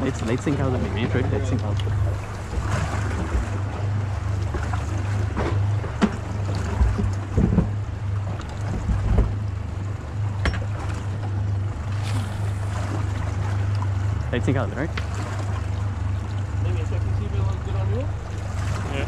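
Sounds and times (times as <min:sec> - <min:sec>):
knocks and thumps on boat: 0:00.0 - 0:16.3
outboard motor running: 0:00.0 - 0:19.0.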